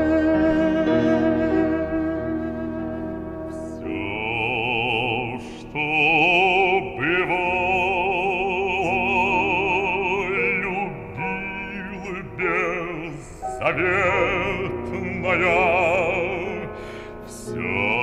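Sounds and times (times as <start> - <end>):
bass voice singing opera: 0.0 - 18.0.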